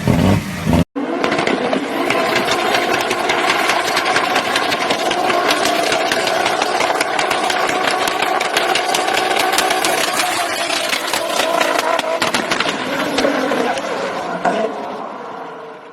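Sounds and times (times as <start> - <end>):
exhaust pops crackling: 0.0 - 14.0
turbocharged car engine revving: 0.0 - 15.9.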